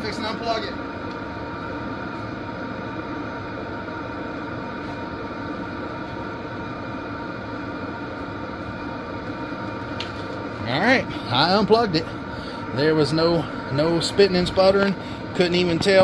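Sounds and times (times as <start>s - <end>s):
diesel heater combustion and fan: 0.0s - 16.0s.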